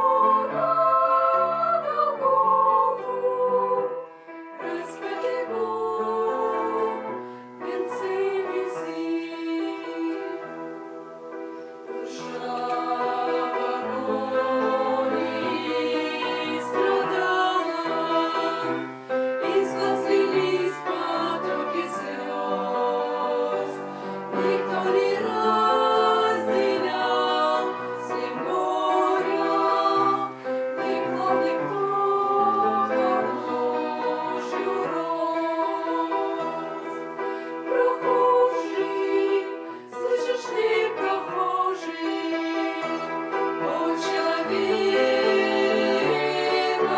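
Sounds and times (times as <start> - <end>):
musical accompaniment: 0.0 - 46.9
women singing in harmony: 0.0 - 46.9.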